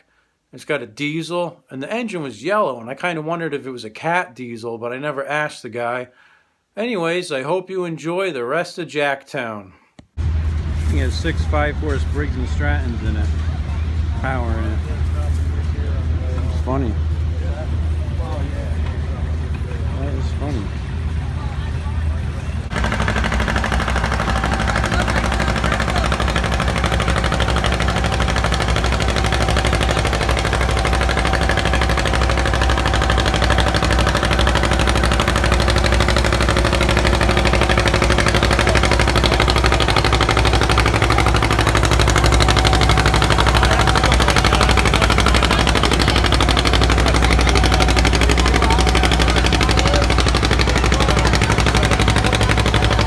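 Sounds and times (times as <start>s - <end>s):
tractor engine running under load: 10.2s - 53.0s.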